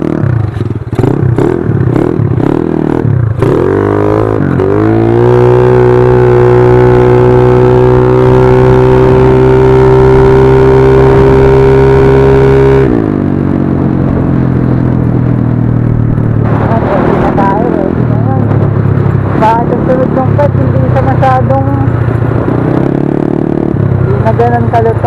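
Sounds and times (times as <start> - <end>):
scooter engine revving: 0.0 - 25.0.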